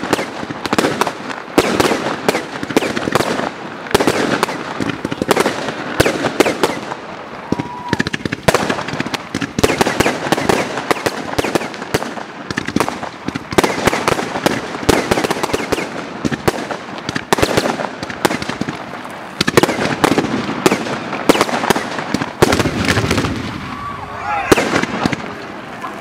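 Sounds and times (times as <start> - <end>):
fireworks cracking and banging: 0.0 - 26.0.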